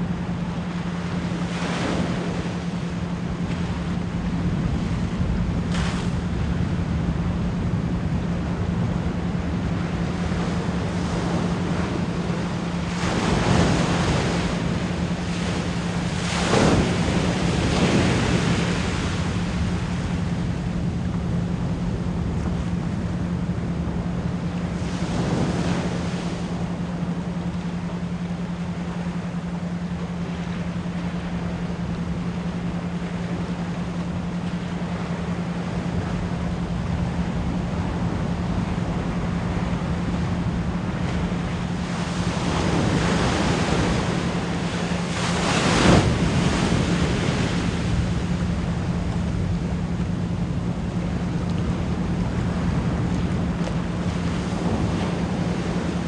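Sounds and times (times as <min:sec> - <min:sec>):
low pulsed pure tone: 0:00.0 - 0:56.0
ocean waves washing: 0:00.0 - 0:56.0.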